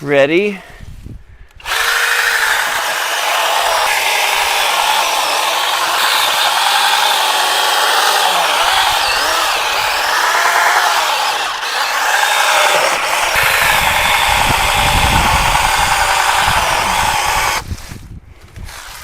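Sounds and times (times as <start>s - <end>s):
chainsaw cutting through wood: 1.6s - 17.7s.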